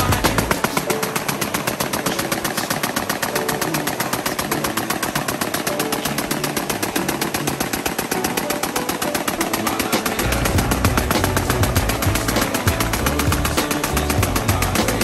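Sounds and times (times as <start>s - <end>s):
machine gun firing full-auto: 0.0s - 15.0s.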